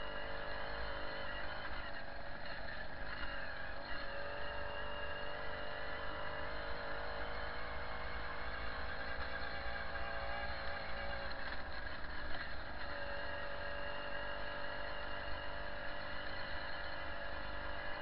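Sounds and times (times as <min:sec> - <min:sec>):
moped engine running: 0:00.0 - 0:18.0.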